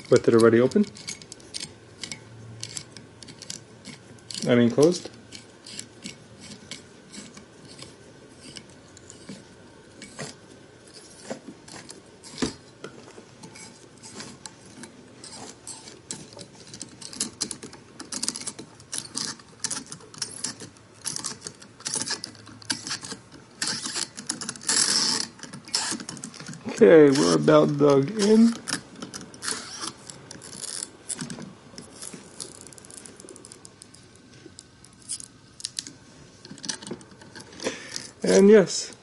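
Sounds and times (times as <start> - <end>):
corkscrew clicking and scraping plastic: 0.0 - 27.5, 28.2 - 34.0.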